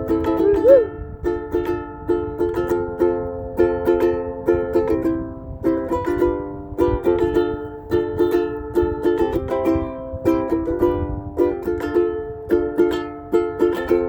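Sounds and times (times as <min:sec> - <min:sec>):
strummed acoustic string instrument: 0:00.0 - 0:14.0
wind rumble on microphone: 0:00.0 - 0:14.0.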